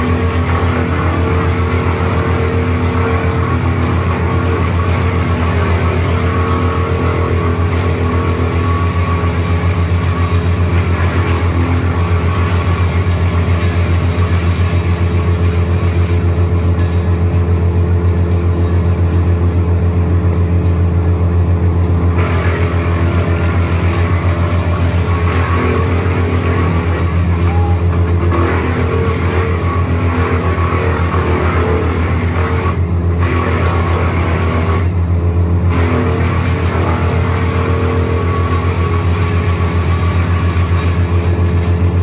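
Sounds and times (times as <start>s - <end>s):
wood chipper engine throbbing: 0.0s - 42.0s.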